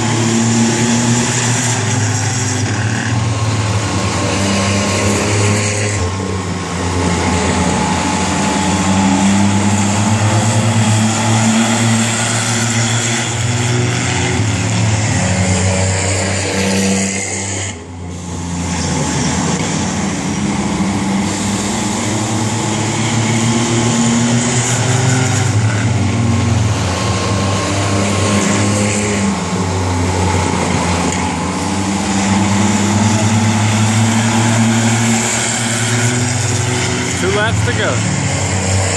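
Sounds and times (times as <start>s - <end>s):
race car engines racing: 0.0s - 38.9s.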